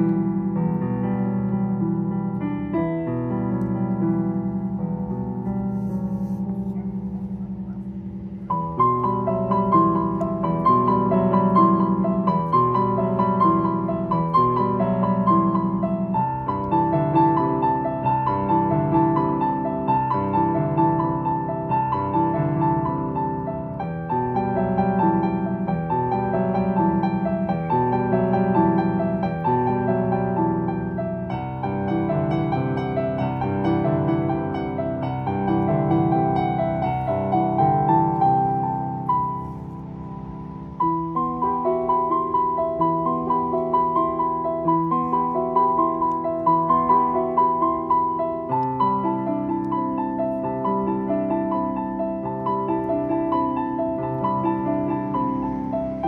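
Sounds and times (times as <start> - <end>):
digital piano broken chords: 0.0 - 56.0.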